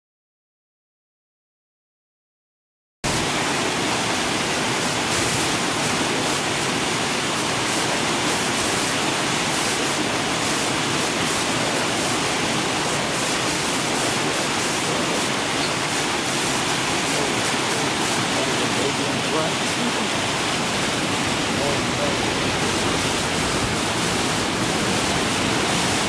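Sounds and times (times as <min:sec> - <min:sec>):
mountain stream rushing: 0:03.0 - 0:26.0.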